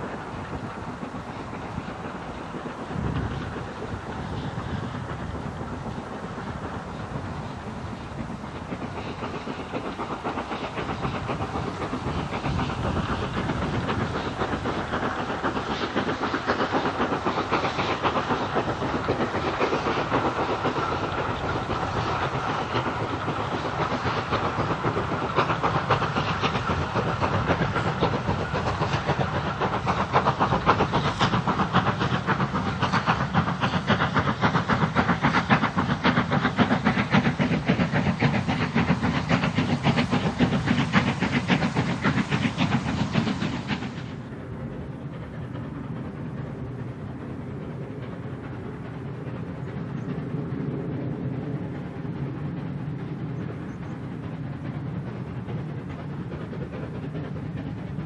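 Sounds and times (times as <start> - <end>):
coaches rumbling on rails: 0.0 - 58.0
steam locomotive exhaust beats: 0.0 - 58.0.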